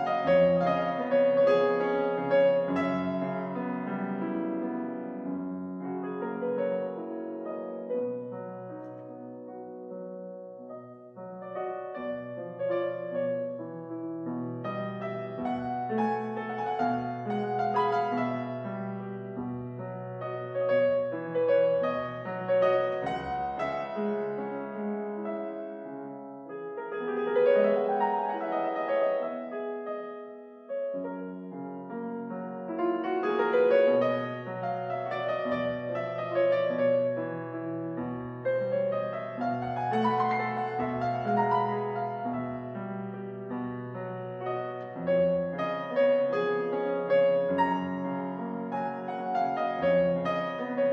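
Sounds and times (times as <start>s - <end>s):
slow gentle piano music: 0.0s - 50.9s.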